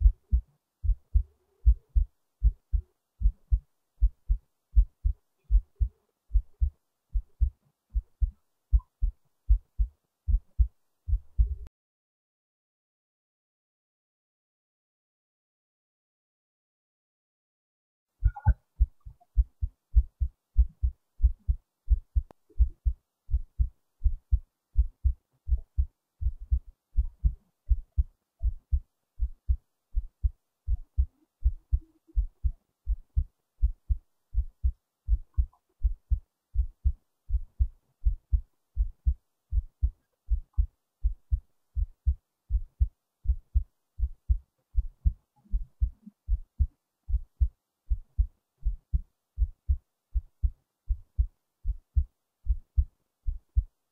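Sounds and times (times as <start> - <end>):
heartbeat thumps: 0.0 - 11.7, 18.2 - 53.8.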